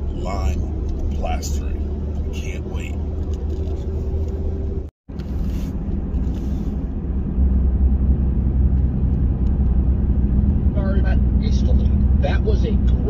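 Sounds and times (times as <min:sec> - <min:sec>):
road and engine rumble in cabin: 0:00.0 - 0:13.0.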